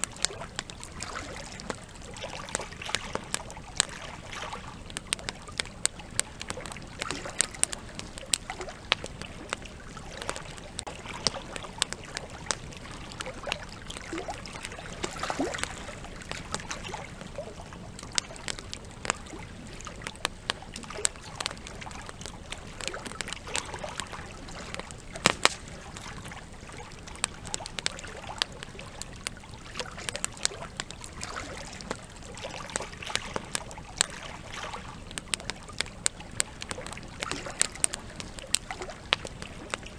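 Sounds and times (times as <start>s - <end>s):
river water flowing: 0.0s - 35.8s
campfire crackling and popping: 0.0s - 39.9s.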